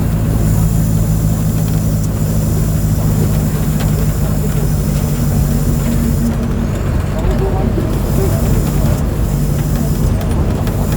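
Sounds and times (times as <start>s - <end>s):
bus diesel engine humming: 0.0s - 10.9s.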